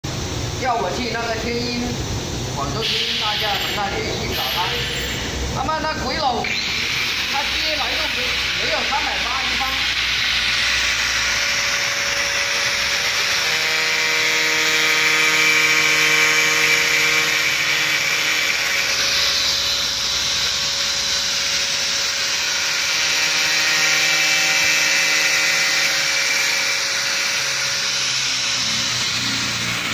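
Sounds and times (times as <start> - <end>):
pitched whine: 0.0 - 29.9
angle grinder cutting metal panel: 2.8 - 29.9.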